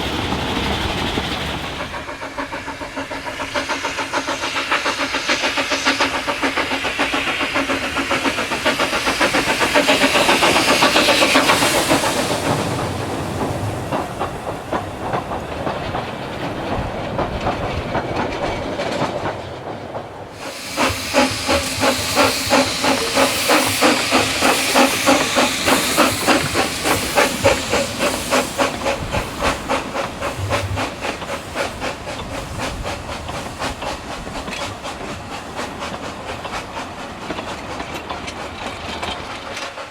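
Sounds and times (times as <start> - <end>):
hissing steam: 0.0 - 39.9
steam locomotive chuffing: 0.0 - 39.9.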